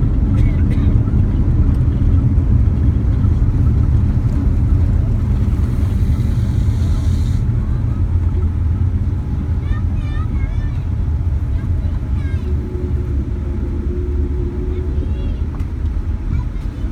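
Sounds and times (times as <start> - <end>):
aircraft cabin rumble: 0.0 - 16.9.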